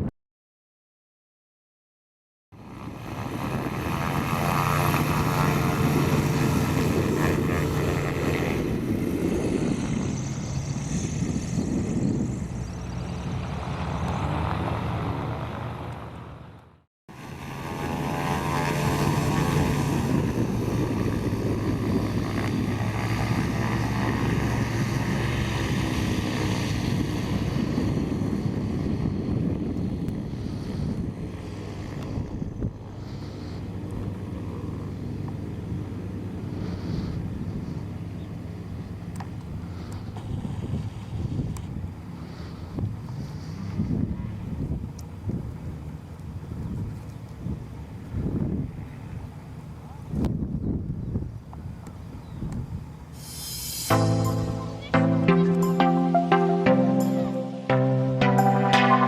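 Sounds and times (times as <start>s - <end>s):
propeller engine droning: 2.5s - 59.0s.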